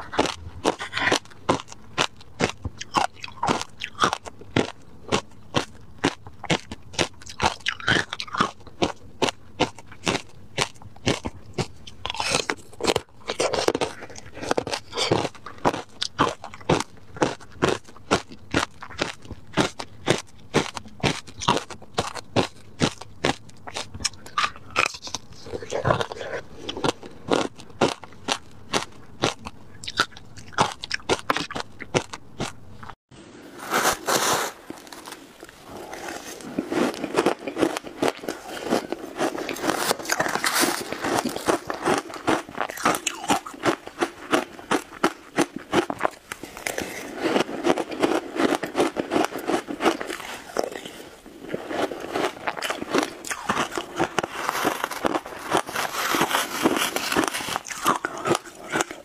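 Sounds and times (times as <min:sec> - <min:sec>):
crunching and chewing ice: 0:00.0 - 0:33.0, 0:33.6 - 0:59.0.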